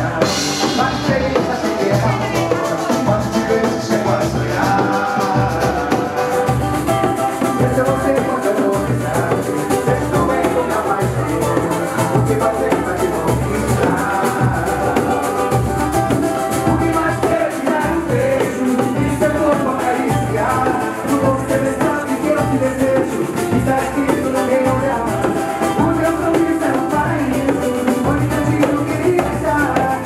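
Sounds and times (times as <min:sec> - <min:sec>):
cavaquinho strumming: 0:00.0 - 0:30.0
hand drum: 0:00.0 - 0:30.0
live band music: 0:00.0 - 0:30.0
voices singing: 0:00.0 - 0:30.0.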